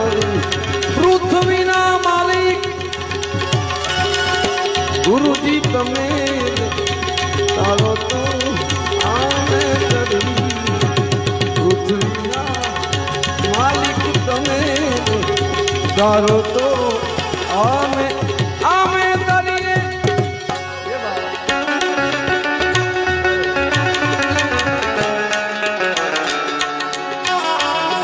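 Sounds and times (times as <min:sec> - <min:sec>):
tabla playing fast rhythm: 0:00.0 - 0:28.0.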